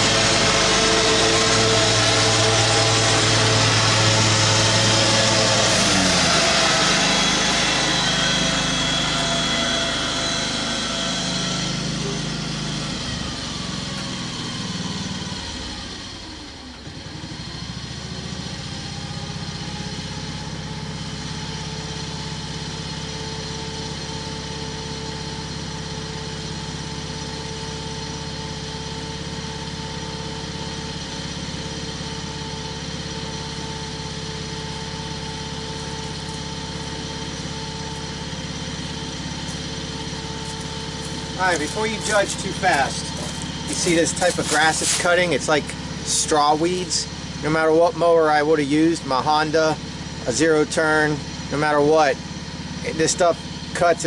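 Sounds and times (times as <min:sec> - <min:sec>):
riding lawn mower engine running: 0:00.0 - 0:54.0.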